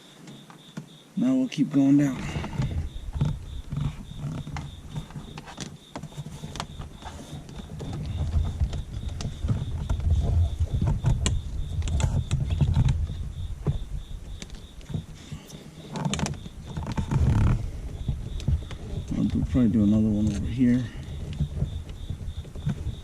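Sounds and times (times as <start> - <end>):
rustling and rubbing of trim: 2.2 - 23.0.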